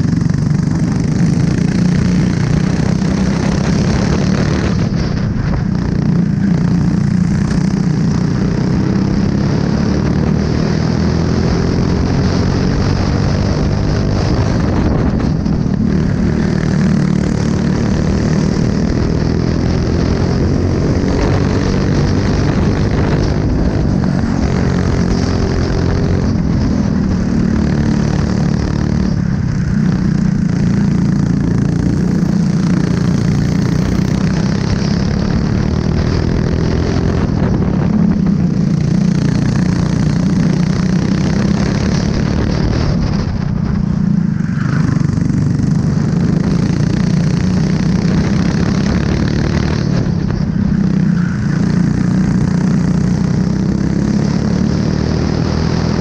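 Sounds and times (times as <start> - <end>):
kart engine revving: 0.0 - 56.0
wind and road noise: 0.0 - 56.0.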